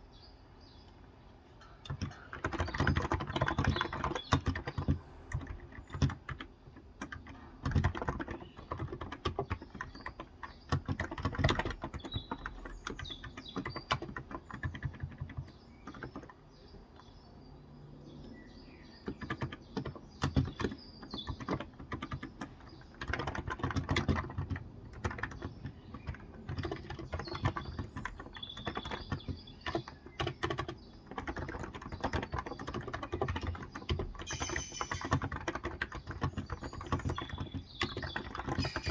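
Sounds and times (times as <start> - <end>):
faint birds chirping: 0.0 - 38.9
typing on a keyboard: 1.6 - 17.2, 17.9 - 38.9.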